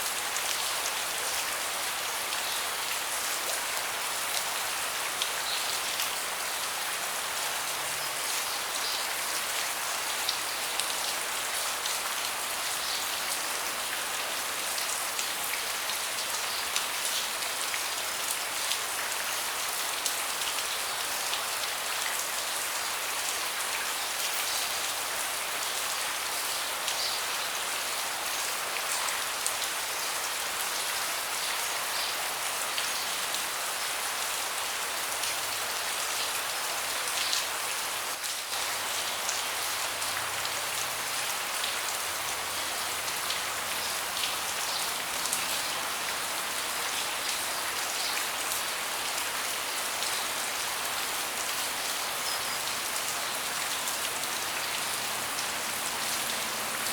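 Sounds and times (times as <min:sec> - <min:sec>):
rain falling on a deck: 0:00.0 - 0:56.9.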